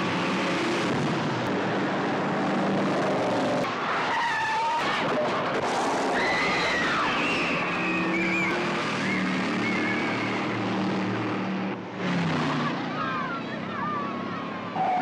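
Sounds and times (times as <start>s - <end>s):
car engines roaring: 0.0s - 15.0s.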